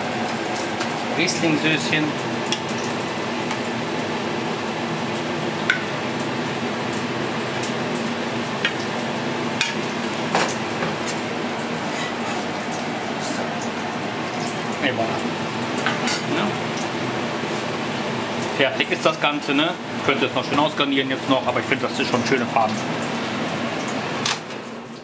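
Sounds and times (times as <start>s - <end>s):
kitchen hiss and hum: 0.0s - 25.0s.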